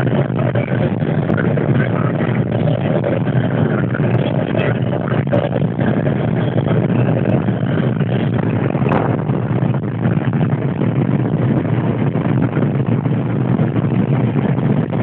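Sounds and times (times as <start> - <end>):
car engine at high speed: 0.0 - 15.0
road and wind noise: 0.0 - 15.0.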